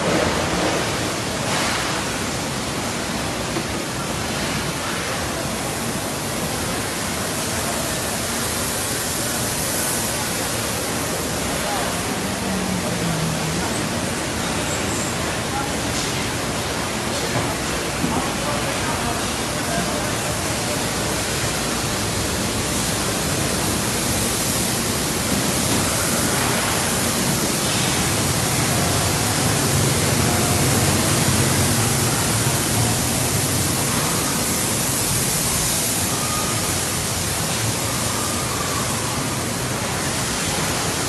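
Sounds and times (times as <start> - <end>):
factory hall hiss: 0.0 - 41.0.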